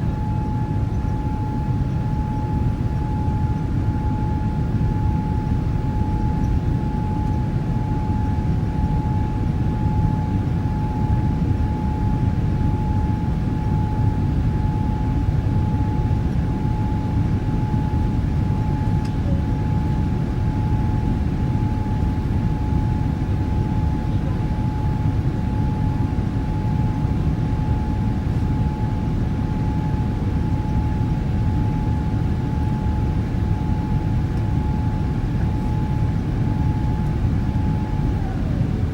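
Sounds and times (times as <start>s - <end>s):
jet engine cabin rumble: 0.0s - 38.9s
steady engine whine: 0.0s - 38.9s.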